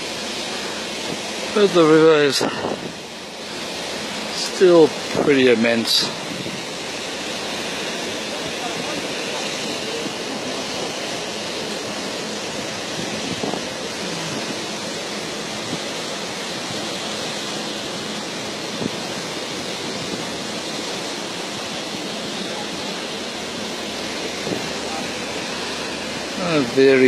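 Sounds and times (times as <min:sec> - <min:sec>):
wind and water rushing: 0:00.0 - 0:27.0.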